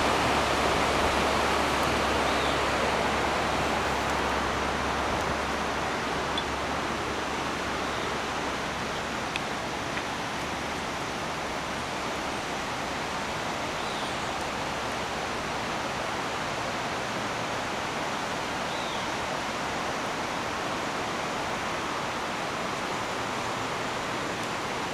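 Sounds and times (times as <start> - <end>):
river rushing: 0.0 - 24.9.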